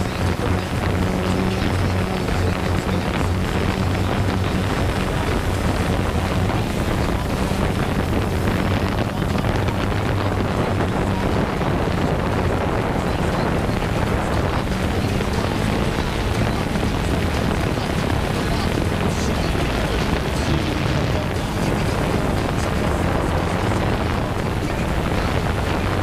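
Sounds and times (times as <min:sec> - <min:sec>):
drone propellers whirring: 0:00.0 - 0:26.0
wind rush on microphone: 0:00.0 - 0:26.0.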